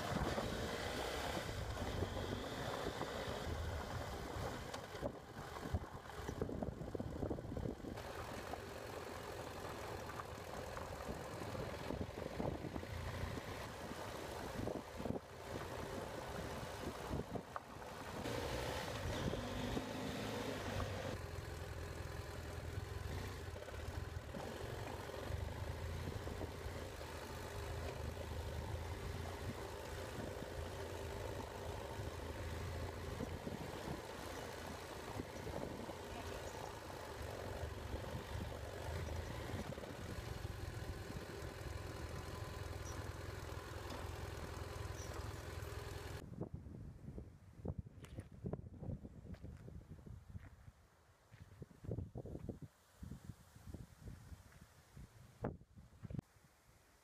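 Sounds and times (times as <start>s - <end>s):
motorcycle engine running: 0.0s - 46.2s.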